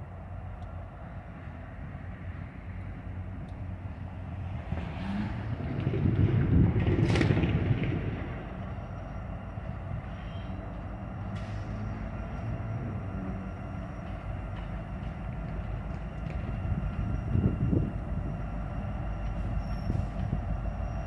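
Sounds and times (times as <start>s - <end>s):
diesel locomotive engine rumble: 0.0s - 21.0s
road vehicle passing close: 0.0s - 21.0s.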